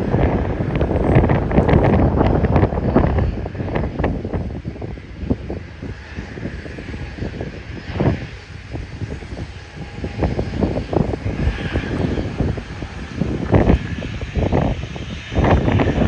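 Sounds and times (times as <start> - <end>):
jet engines at takeoff power: 0.0 - 16.0
wind buffeting microphone: 0.0 - 16.0.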